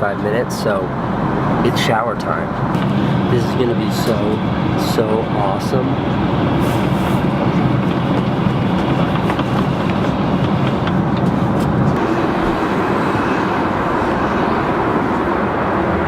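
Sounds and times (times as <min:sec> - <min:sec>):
airliner cabin engine and air noise: 0:00.0 - 0:16.0
low hum: 0:02.4 - 0:16.0.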